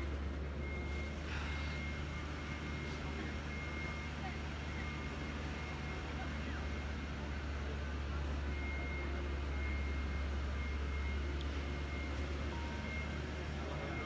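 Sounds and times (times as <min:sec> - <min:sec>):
crowd murmuring: 0:00.0 - 0:14.0.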